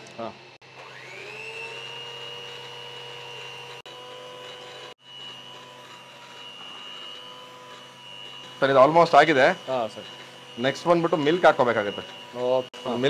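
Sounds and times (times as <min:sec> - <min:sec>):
electric mixer whine: 0:00.0 - 0:13.0.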